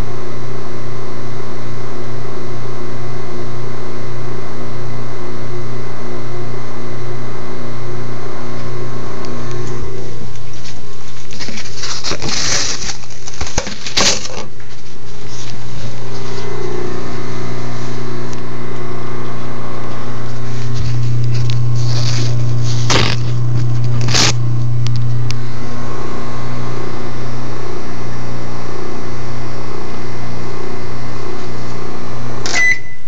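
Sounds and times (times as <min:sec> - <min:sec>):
microwave oven humming: 0:00.0 - 0:33.0.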